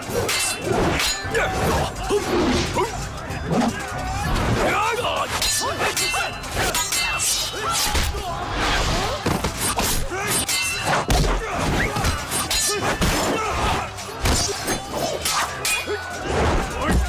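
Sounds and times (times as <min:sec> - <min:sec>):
dramatic background music: 0:00.0 - 0:17.0
fighters shouting: 0:00.0 - 0:17.0
swords clashing: 0:00.0 - 0:17.0.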